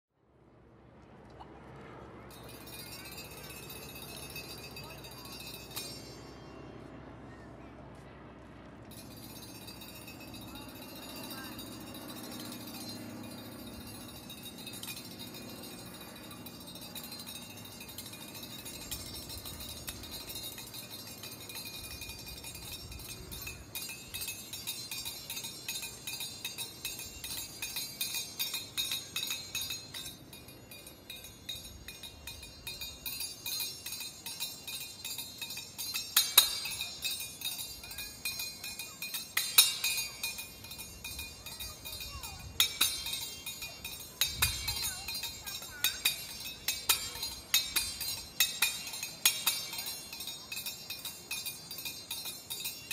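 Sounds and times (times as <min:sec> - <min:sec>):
hand cymbals ringing: 0:02.3 - 0:06.7, 0:08.9 - 0:52.9
loud cymbal clashes: 0:08.9 - 0:52.9.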